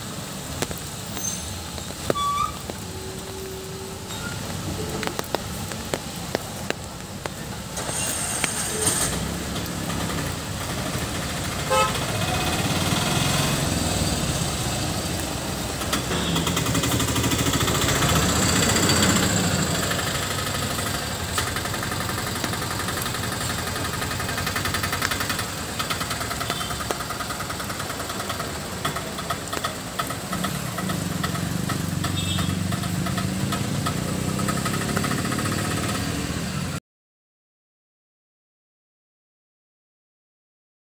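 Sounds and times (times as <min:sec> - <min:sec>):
coach diesel engine: 0:00.0 - 0:36.8
tyres on wet road: 0:00.0 - 0:36.8.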